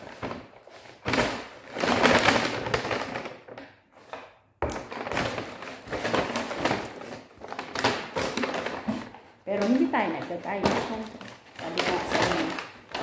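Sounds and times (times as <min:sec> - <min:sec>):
paper bag rustling and crinkling: 0:00.0 - 0:13.0.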